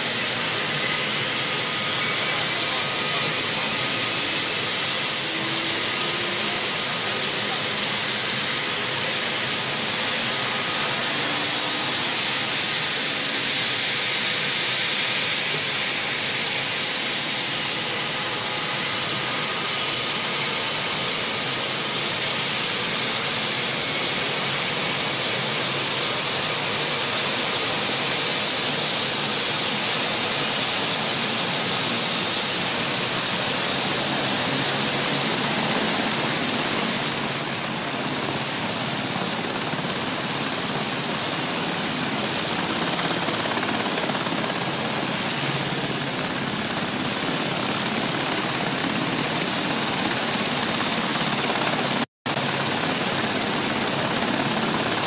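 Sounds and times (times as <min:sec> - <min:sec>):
helicopter turbine rushing: 0:00.0 - 0:55.0
high turbine whines: 0:00.0 - 0:55.0.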